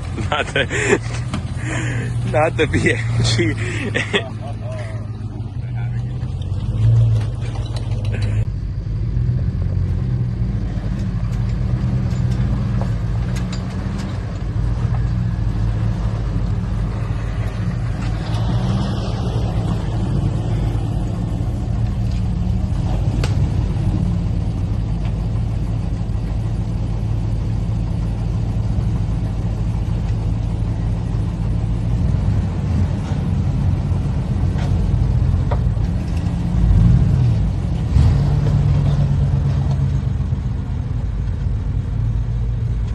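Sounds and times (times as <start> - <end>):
vehicle engine running at low revs: 0.0 - 42.9.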